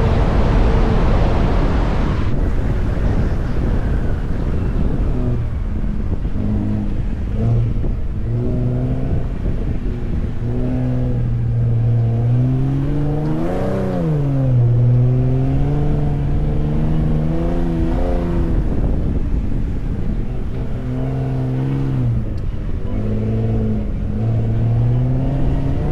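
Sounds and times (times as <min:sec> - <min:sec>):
truck engine revving: 0:00.0 - 0:03.0, 0:04.7 - 0:25.9
low rumble: 0:00.0 - 0:25.9.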